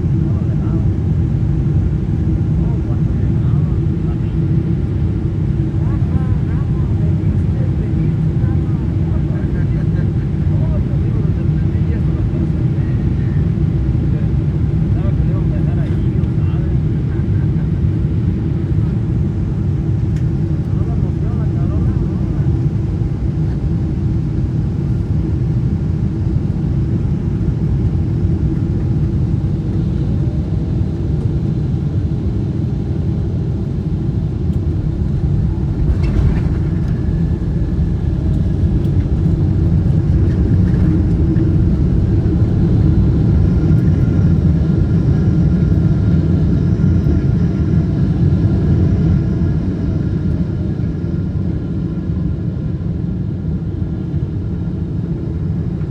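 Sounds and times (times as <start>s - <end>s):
airliner engines and airflow rumble: 0.0s - 55.9s.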